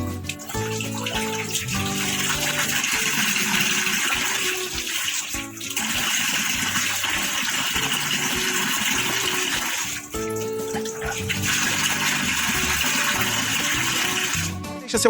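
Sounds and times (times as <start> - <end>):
water rushing: 0.0 - 14.6
soft background music: 0.0 - 15.0.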